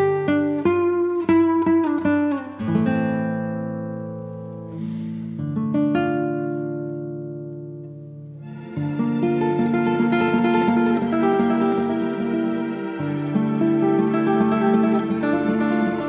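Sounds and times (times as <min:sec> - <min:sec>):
plucked string instrument chords: 0:00.0 - 0:16.0.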